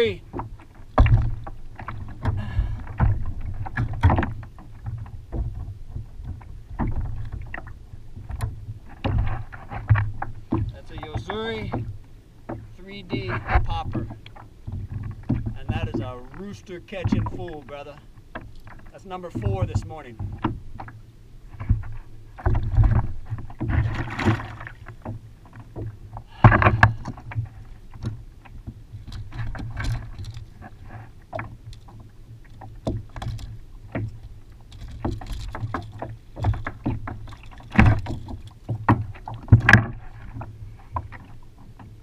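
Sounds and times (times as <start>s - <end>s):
knocks and clatter on kayak: 0.0s - 42.0s.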